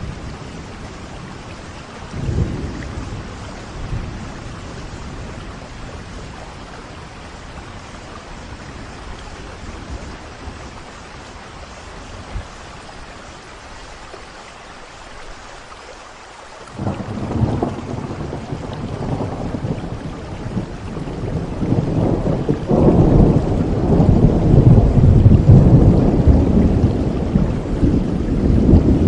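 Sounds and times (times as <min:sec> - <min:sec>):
thunder rumble: 0:00.0 - 0:13.4, 0:16.8 - 0:29.0
rain hissing: 0:00.0 - 0:29.0.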